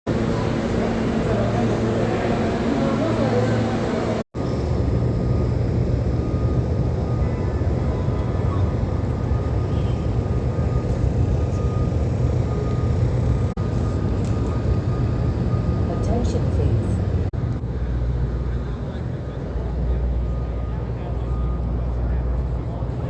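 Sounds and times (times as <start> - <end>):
faint high whine: 0.1 - 23.0
subway train rumble: 0.1 - 23.0.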